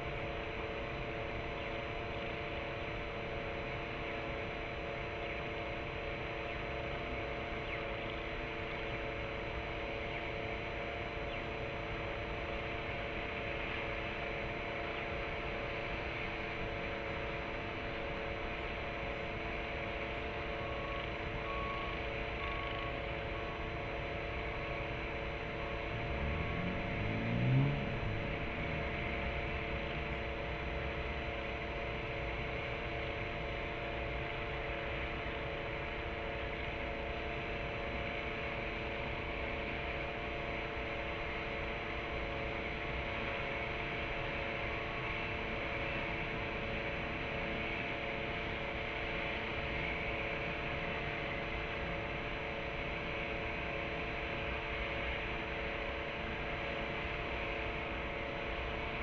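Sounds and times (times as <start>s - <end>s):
steady background hum and hiss: 0.0s - 59.0s.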